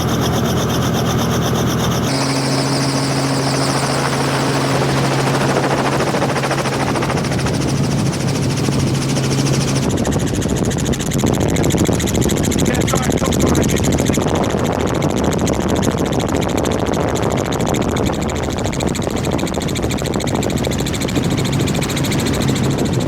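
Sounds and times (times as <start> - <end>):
helicopter engine drone: 0.0 - 23.0
helicopter rotor chop: 0.0 - 23.0.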